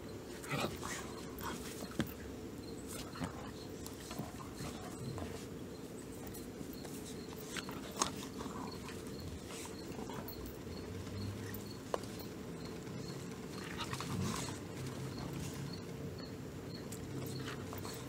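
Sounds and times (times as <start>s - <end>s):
dogs mouthing and fur rubbing: 0.2s - 15.9s, 16.8s - 18.0s.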